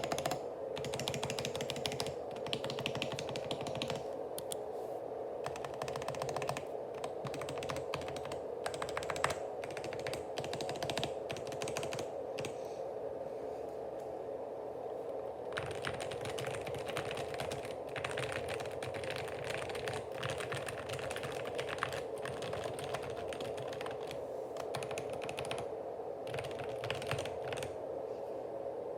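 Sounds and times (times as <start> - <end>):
mechanical keyboard typing: 0.0 - 4.6, 5.4 - 12.6, 15.5 - 25.7, 26.3 - 27.7
steady hum: 0.0 - 28.9.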